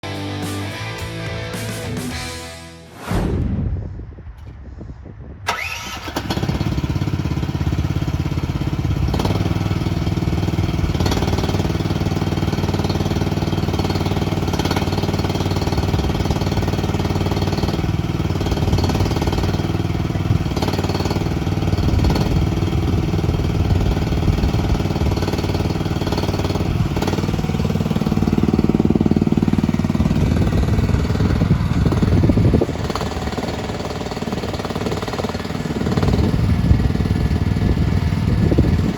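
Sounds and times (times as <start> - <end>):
excavator engine running: 5.5 - 38.9.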